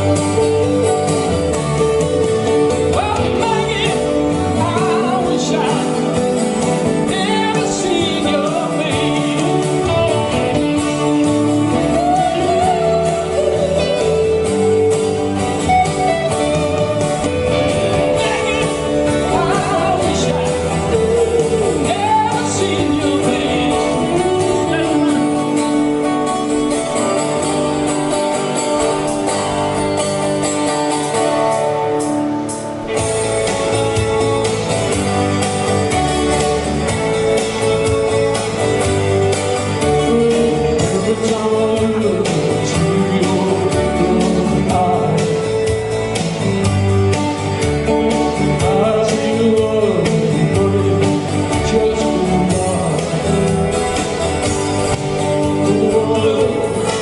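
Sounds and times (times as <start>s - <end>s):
electric guitar lead lines: 0.0s - 57.0s
strummed acoustic guitar: 0.0s - 57.0s.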